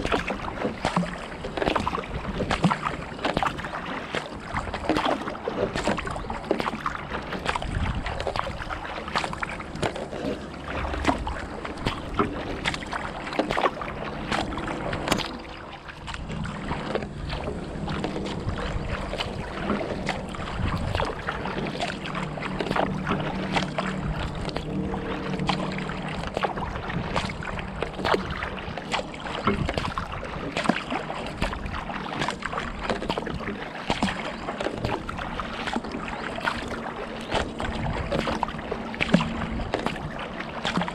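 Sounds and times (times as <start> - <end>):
paddle blades splashing: 0.0 - 40.9
water dripping off paddles: 0.0 - 40.9.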